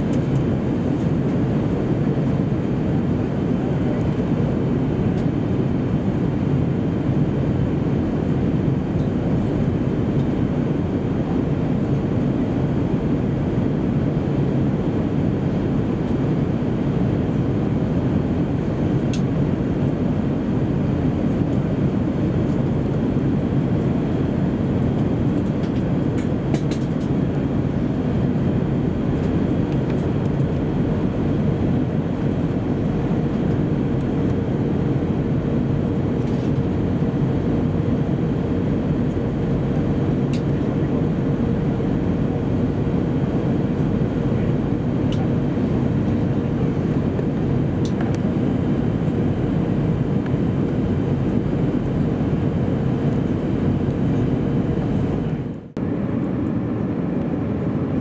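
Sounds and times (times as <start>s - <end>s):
airliner cabin air rush: 0.0s - 58.0s
turbofan engines droning: 0.0s - 58.0s.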